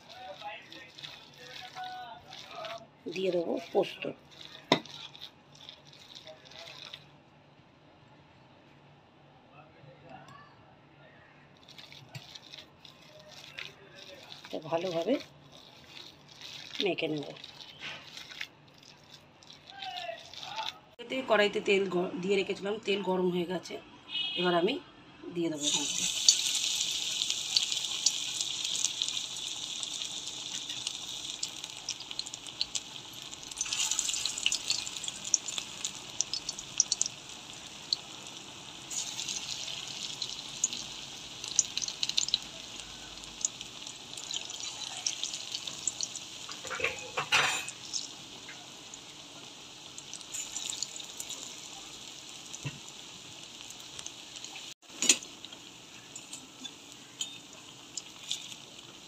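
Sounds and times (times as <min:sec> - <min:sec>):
fritters sizzling in hot oil: 0:00.0 - 0:07.1, 0:11.6 - 0:22.5, 0:25.5 - 0:59.0.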